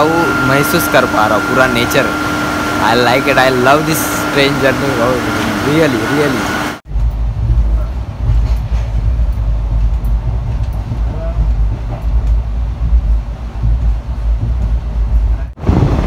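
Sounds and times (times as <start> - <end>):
train rumble from inside carriage: 0.0 - 16.0.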